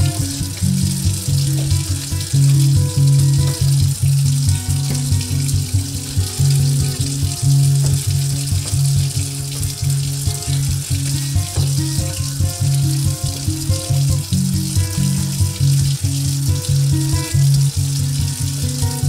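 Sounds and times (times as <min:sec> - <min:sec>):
background music with bass line: 0:00.0 - 0:19.0
tap running into sink: 0:00.0 - 0:19.0.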